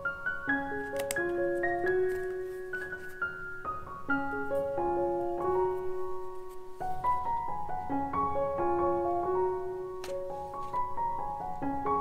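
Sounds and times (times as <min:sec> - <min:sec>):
slow melody of held notes: 0:00.0 - 0:12.0.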